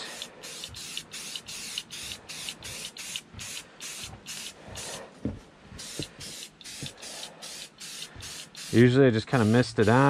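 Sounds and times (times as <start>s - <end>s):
spray paint can hissing: 0.1s - 4.9s, 5.8s - 10.0s.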